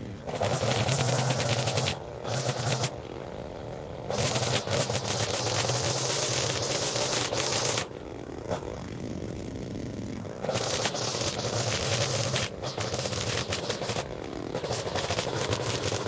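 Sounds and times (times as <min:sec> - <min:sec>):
crackling and scraping: 0:00.0 - 0:16.0
lawn mower engine running: 0:00.0 - 0:16.0.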